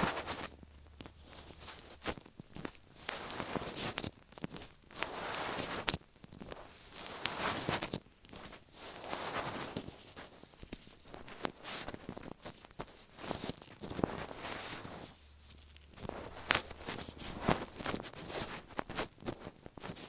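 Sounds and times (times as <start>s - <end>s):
gloved fingers rustling on microphone: 0.0s - 5.9s, 6.5s - 20.0s.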